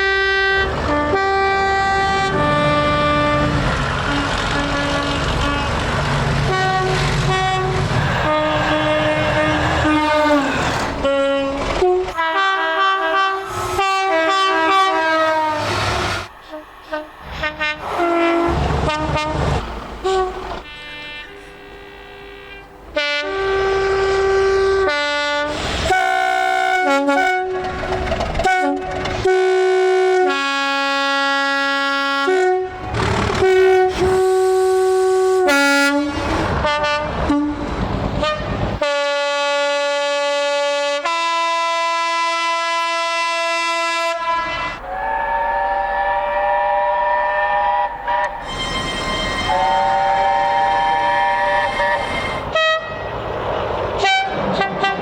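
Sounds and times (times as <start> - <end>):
train horn blasts: 0.0 - 53.2, 54.0 - 55.0
rumble of passing train: 0.0 - 55.0.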